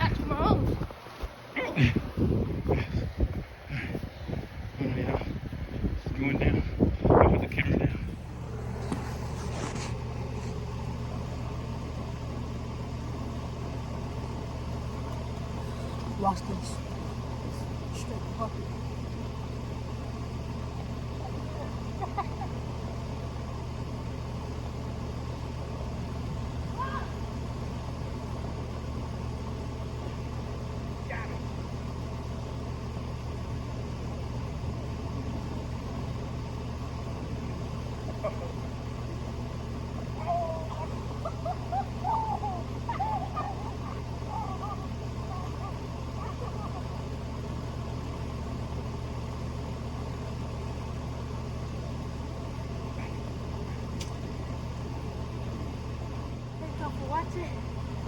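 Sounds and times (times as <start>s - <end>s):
engine idling: 0.0s - 58.0s
low mechanical hum: 0.0s - 58.0s.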